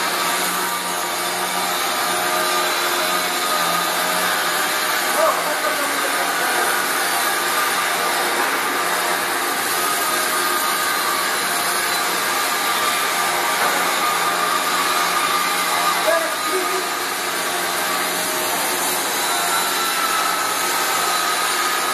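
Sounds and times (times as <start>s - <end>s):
welding arc hissing: 0.0s - 21.9s.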